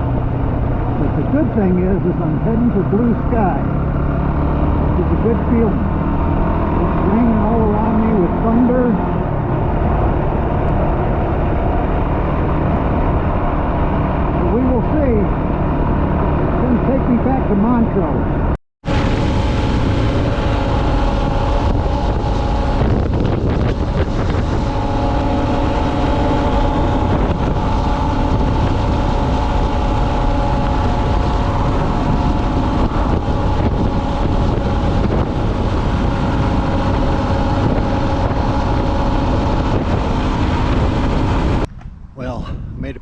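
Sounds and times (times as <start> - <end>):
motorcycle engine running: 0.0 - 42.0
wind noise on microphone: 0.0 - 43.0.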